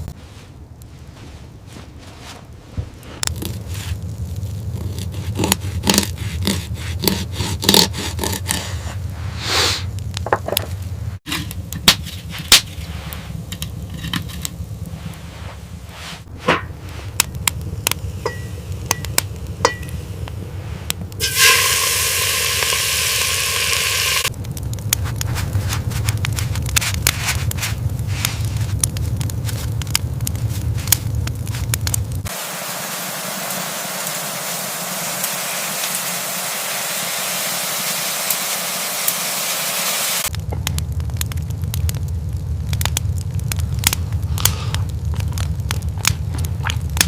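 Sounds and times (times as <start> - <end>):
low rumble: 0.0 - 6.3, 8.6 - 23.6, 24.2 - 47.0
steady hissing: 0.0 - 40.4, 41.8 - 47.0
crackling and popping: 0.0 - 47.0.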